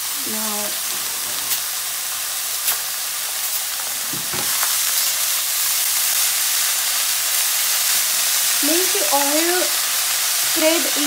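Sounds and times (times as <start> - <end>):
cabbage sizzling in hot oil: 0.0 - 11.0.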